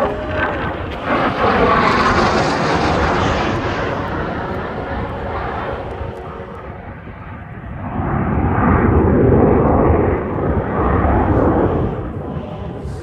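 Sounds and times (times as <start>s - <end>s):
jet roar passing overhead: 0.0s - 13.0s.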